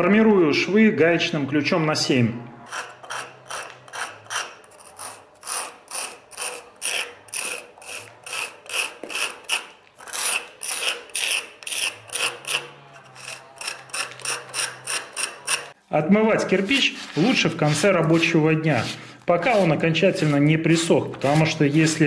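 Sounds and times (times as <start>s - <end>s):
metal scraping mortar joints: 2.6s - 22.0s.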